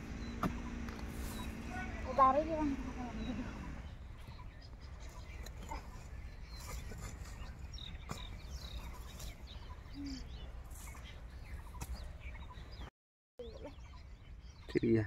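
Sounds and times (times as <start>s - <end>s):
faint outdoor background: 0.0s - 15.0s
bird chirps and calls: 0.1s - 15.0s.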